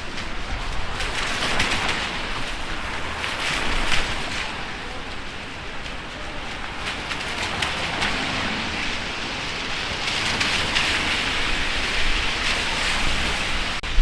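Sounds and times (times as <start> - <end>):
raindrop taps: 0.0 - 11.6
heavy rain on street: 0.0 - 14.0.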